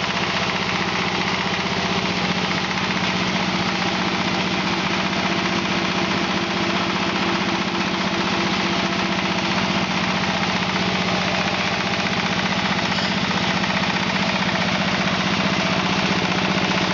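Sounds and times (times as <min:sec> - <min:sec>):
diesel engine knocking: 0:00.0 - 0:16.9.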